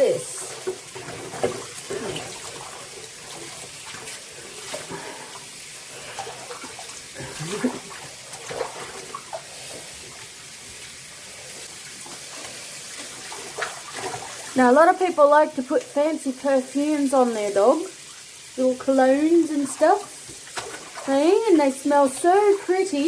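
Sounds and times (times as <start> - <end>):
tap water running: 0.0 - 23.0
water splashing: 0.0 - 23.0.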